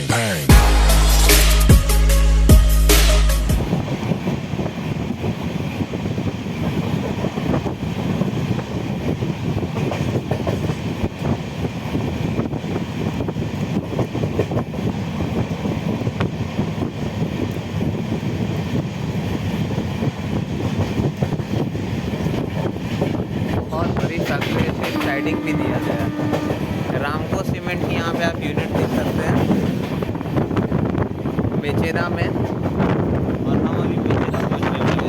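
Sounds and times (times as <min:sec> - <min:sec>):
wind noise: 0:03.5 - 0:35.0
train wheels rumbling on rails: 0:03.6 - 0:35.0.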